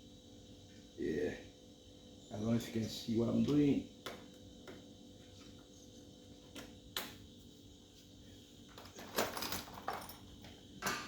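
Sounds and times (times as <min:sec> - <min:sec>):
fridge compressor hum: 0:00.0 - 0:11.0.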